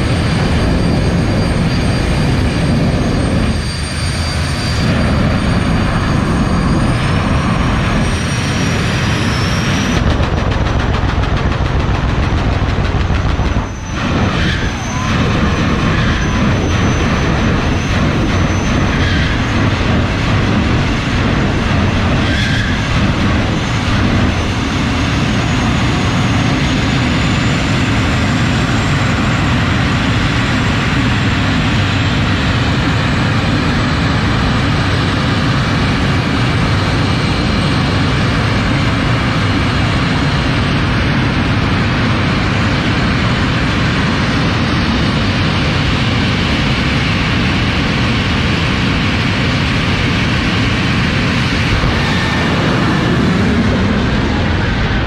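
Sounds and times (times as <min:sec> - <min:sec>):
drag racing car engines rumbling: 0:00.0 - 0:55.0.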